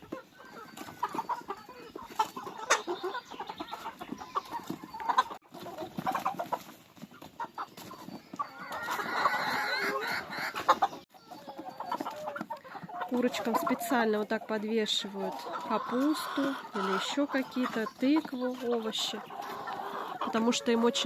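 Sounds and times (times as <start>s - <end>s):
chickens clucking and chirping: 0.0s - 21.0s
chickens pecking cabbage taps: 0.0s - 21.0s.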